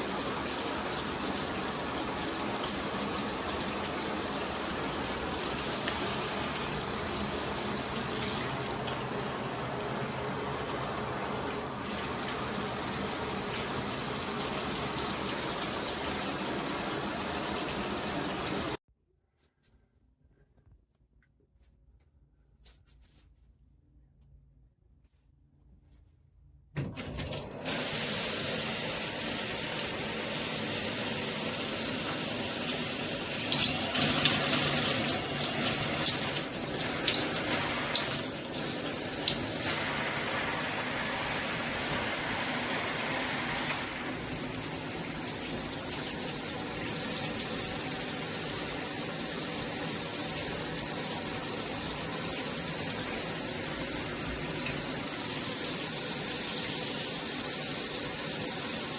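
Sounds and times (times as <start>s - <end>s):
shower head spraying water: 0.0s - 18.8s, 27.0s - 58.9s.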